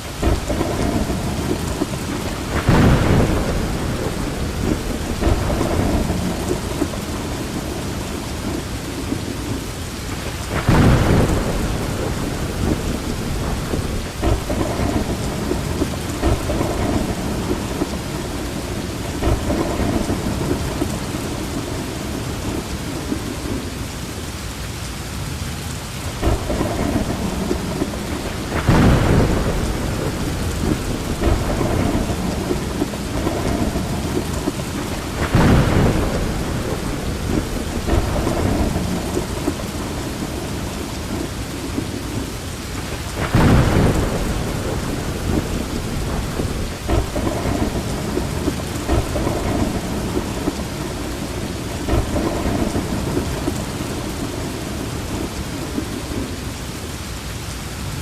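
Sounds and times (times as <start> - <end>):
steady rain: 0.0 - 58.0
thunder rolling and clapping: 0.1 - 23.7, 26.2 - 56.4.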